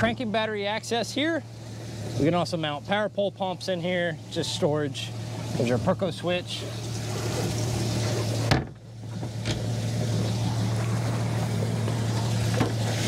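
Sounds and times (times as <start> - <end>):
outboard motor idling: 0.0 - 13.0
water noise: 0.0 - 13.0
wind: 0.0 - 13.0.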